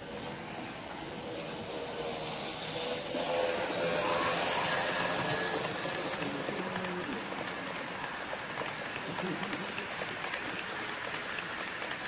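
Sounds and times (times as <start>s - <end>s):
model train rushing rattle: 0.0s - 12.0s
wheels clicking over rails: 0.0s - 12.0s.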